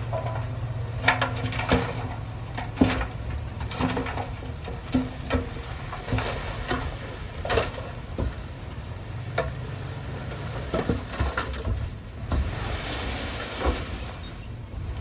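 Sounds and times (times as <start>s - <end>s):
metal clanks and knocks: 0.0s - 12.6s
diesel engine running low: 0.0s - 15.0s.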